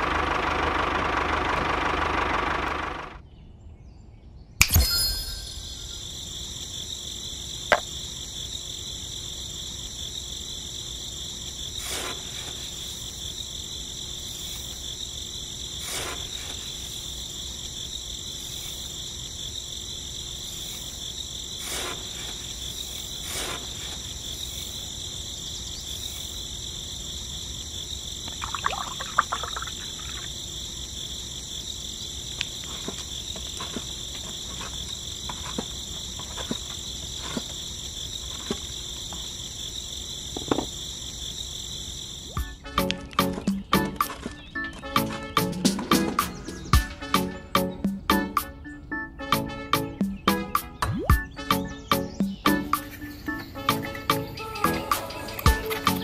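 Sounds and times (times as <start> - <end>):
crickets and insects chirping: 4.8 - 56.0.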